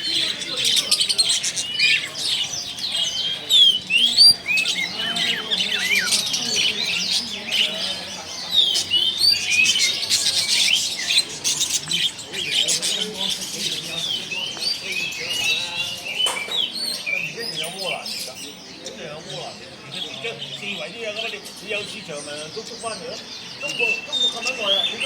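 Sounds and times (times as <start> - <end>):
songbirds chirping chorus: 0.0 - 25.0.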